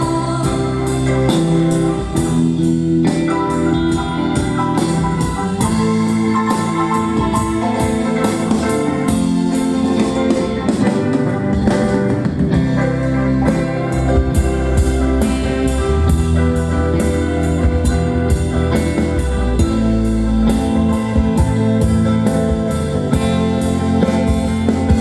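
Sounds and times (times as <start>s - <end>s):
drums keeping a steady beat: 0.0s - 25.0s
live rock band playing: 0.0s - 25.0s.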